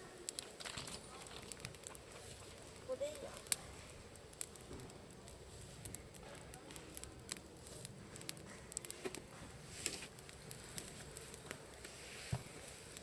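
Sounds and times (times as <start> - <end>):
campfire crackling: 0.0 - 13.0
fire pops and snaps: 0.0 - 13.0.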